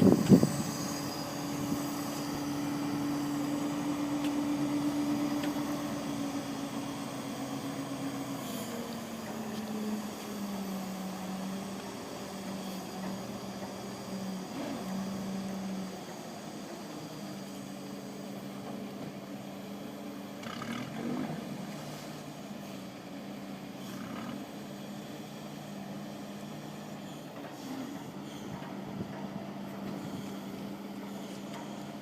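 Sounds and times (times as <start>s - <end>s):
engine running: 0.0s - 32.0s.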